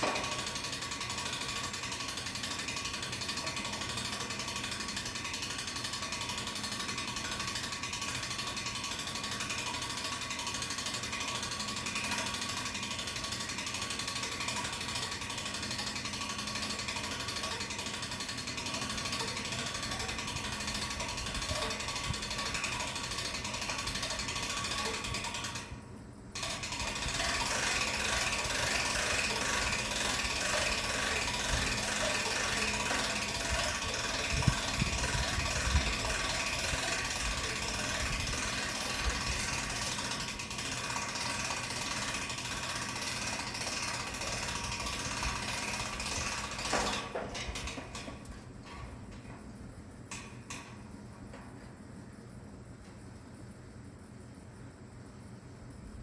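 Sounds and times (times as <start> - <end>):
hand-crank winch ratcheting: 0.0 - 25.8, 26.4 - 51.6.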